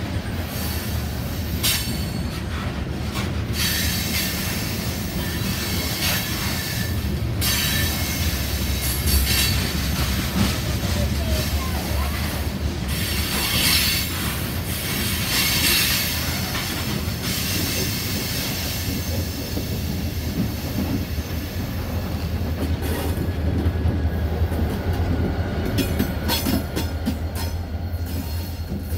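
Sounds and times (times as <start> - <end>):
diesel locomotive engine drone: 0.0 - 28.9
train wheel squeal and hiss: 0.2 - 23.2, 25.7 - 28.9.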